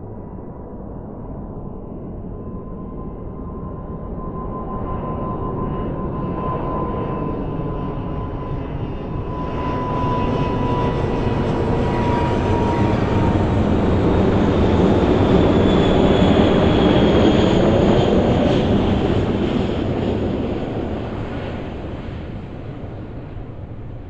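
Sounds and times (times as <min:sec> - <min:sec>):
airliner landing roar: 0:00.0 - 0:24.0
jet engine whine: 0:00.0 - 0:24.0.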